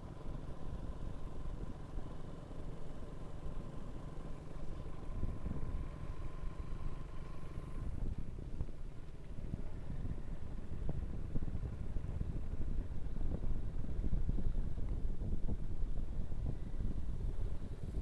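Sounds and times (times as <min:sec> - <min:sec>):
faint steady whine: 0:00.0 - 0:18.0
road and wind rumble: 0:00.0 - 0:18.0.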